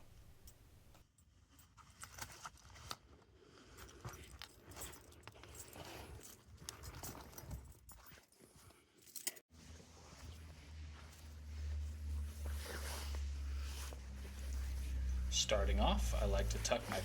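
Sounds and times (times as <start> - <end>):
soft rustling of clothing: 1.1 - 17.0.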